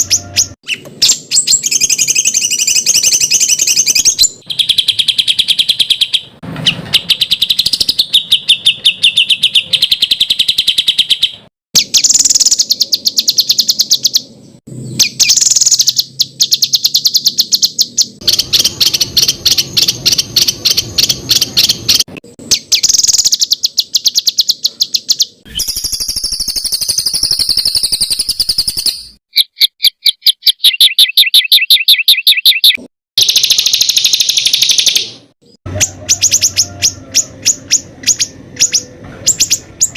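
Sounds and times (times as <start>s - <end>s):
bird trill: 0.0s - 39.9s
songbird singing rapid notes: 0.0s - 39.9s.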